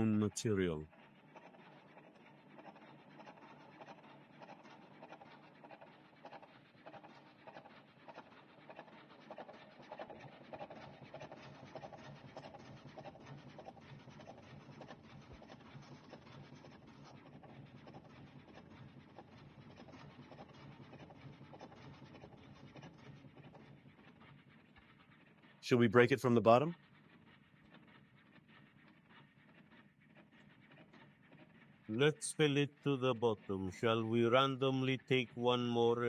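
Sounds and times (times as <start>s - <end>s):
cigarette-rolling machine whirring: 0.0s - 36.0s.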